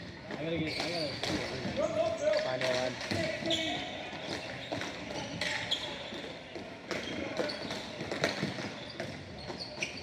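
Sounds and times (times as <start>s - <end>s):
hockey sticks clacking on ball: 0.2s - 10.0s
shoes squeaking on floor: 0.3s - 2.4s, 3.2s - 10.0s.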